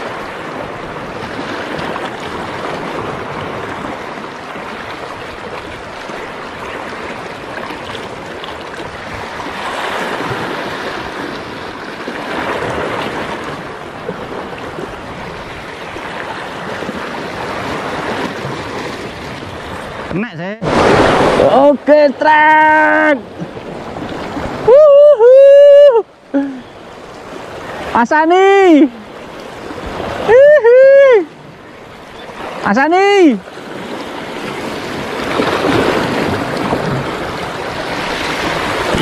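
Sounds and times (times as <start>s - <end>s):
waves washing against rocky shore: 0.0s - 39.0s.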